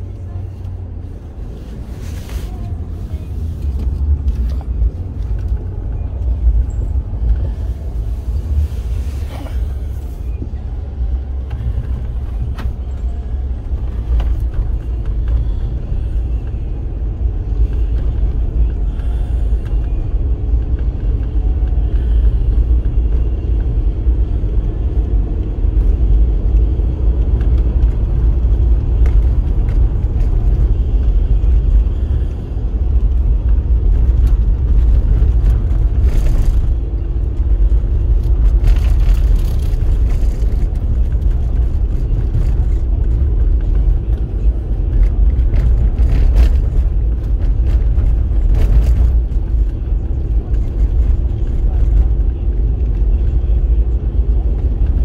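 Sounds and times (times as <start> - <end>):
road and engine rumble: 0.0 - 55.0.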